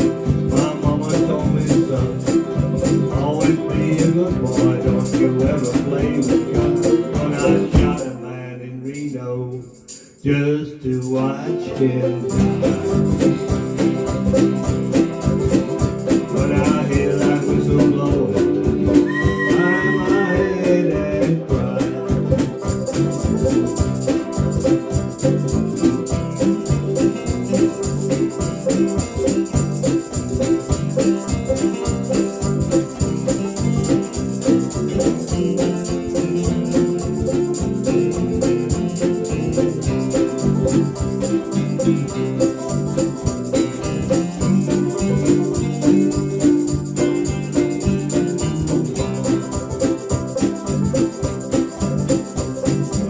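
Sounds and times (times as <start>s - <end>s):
country band instrumental: 0.0s - 53.0s
jingling percussion: 0.0s - 53.0s.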